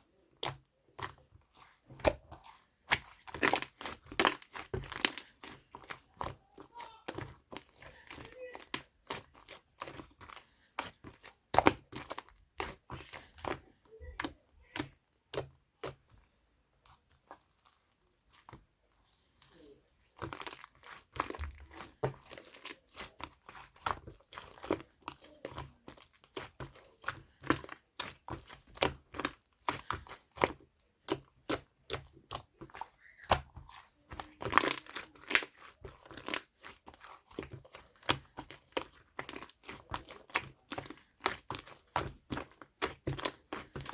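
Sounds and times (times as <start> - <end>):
slime popping and crackling: 0.3 - 16.0, 16.9 - 43.9.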